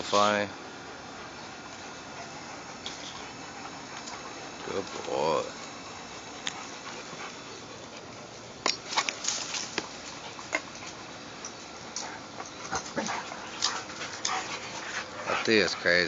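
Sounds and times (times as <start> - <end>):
dogs playing sharp sounds: 0.6 - 16.0.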